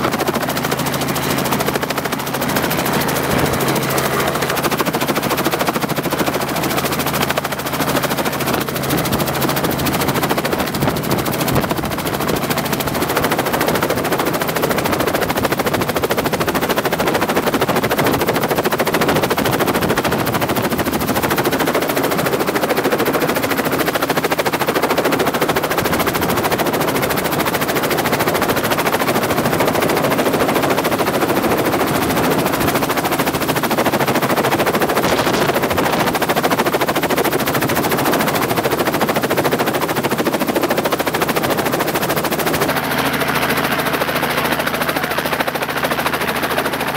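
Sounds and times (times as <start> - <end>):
helicopter rotor chopping: 0.0 - 46.9.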